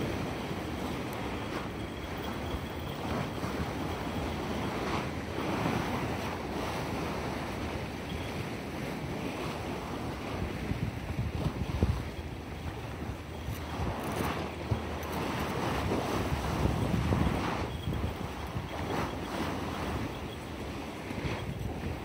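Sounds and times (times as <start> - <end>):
sea waves washing: 0.0 - 22.0
wind buffeting microphone: 0.0 - 22.0.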